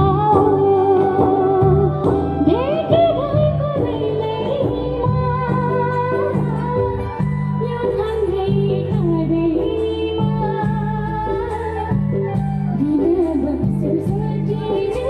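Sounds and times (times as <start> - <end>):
instrumental backing with bass: 0.0 - 15.0
woman singing: 0.0 - 15.0.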